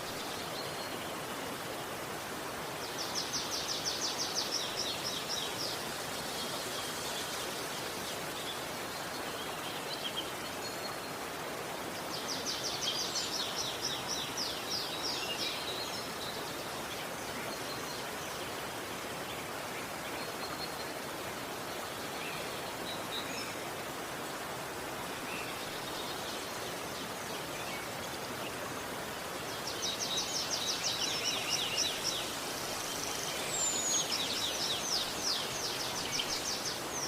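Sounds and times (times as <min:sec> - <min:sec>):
river flowing: 0:00.0 - 0:37.0.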